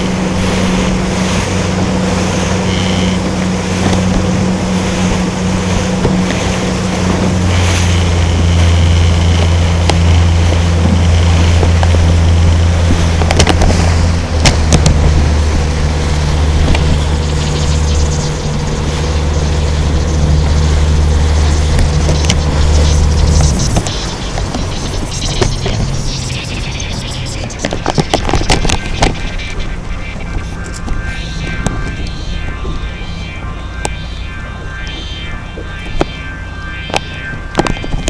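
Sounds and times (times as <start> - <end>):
boat engine droning: 0.0 - 38.0
rush of water: 0.0 - 38.0
wind: 0.0 - 38.0.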